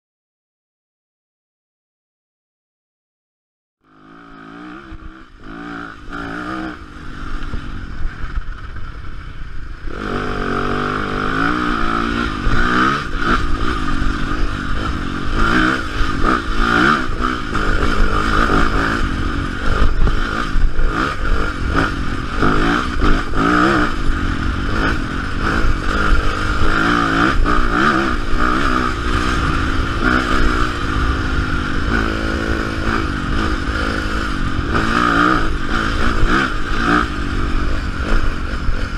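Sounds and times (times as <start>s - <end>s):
dirt bike engine revving: 3.8s - 38.9s.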